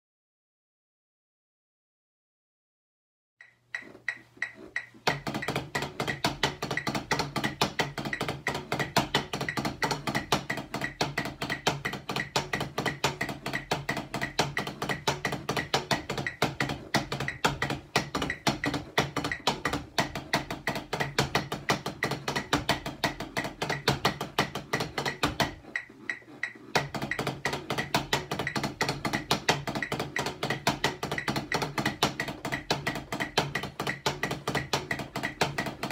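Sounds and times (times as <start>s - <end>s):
drumsticks tapping practice pads: 3.4s - 35.9s.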